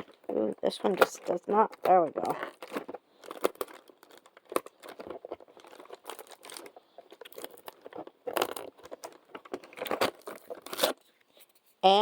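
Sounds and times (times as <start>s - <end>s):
crinkly packaging torn open: 0.0s - 11.1s.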